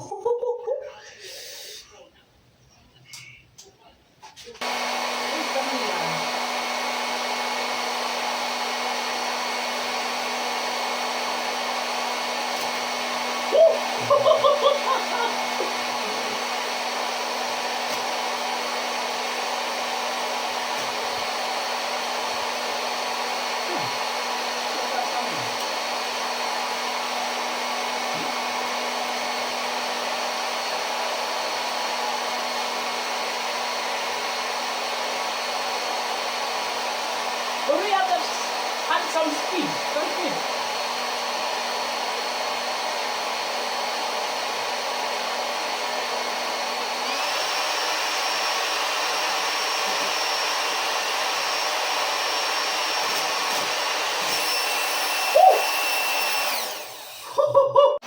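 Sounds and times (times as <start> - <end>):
electric blower motor humming: 4.6 - 58.0.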